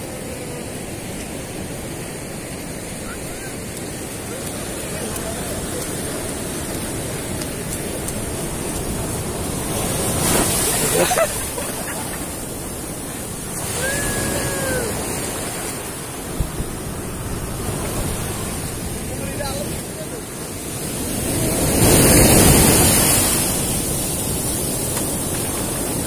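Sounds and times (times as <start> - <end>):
ocean surf washing ashore: 0.0 - 26.0.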